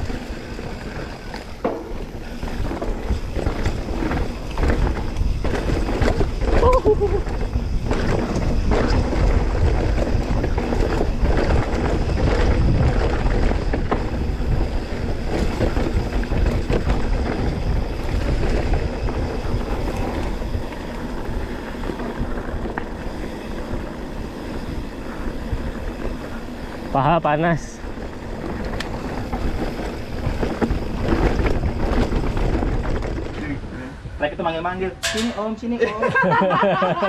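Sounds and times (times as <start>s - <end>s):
wind buffeting microphone: 0.0s - 35.7s
bike rattle and tyre noise: 0.0s - 37.0s.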